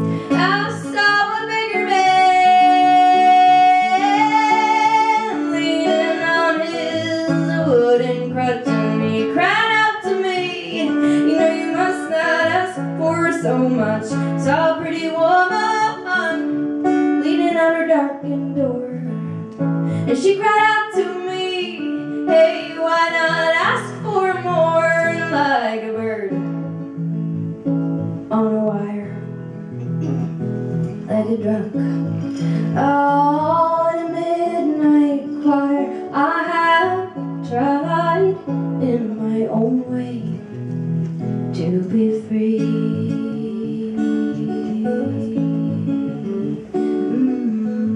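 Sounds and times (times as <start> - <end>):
woman singing: 0.0 - 26.5, 28.3 - 29.3, 31.0 - 40.6, 41.5 - 47.9
acoustic guitar chords: 0.0 - 47.9.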